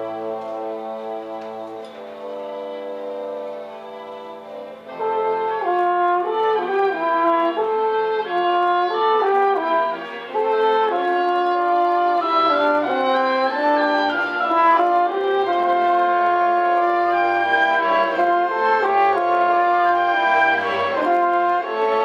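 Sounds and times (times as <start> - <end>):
orchestra playing: 0.0 - 22.0.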